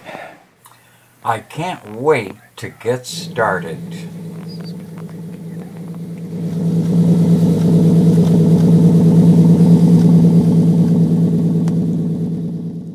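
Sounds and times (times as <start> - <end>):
car engine exhaust note: 2.0 - 12.9.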